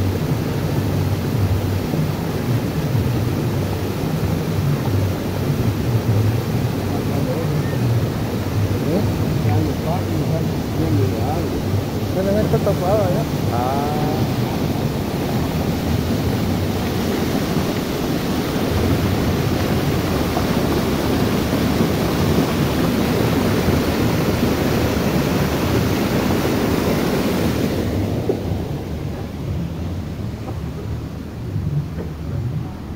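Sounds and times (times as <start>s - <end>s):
water rushing down cascade: 0.0s - 32.9s.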